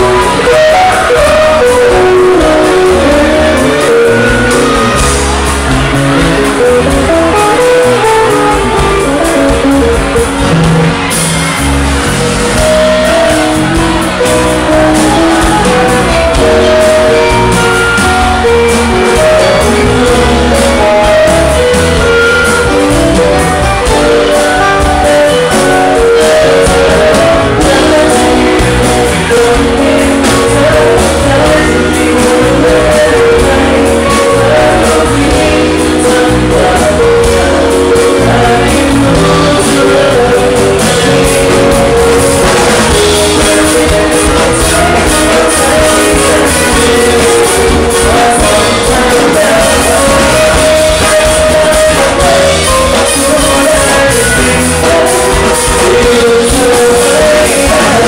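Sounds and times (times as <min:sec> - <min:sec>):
drums: 0:00.0 - 0:58.0
electric bass: 0:00.0 - 0:58.0
person singing into microphone: 0:00.0 - 0:58.0.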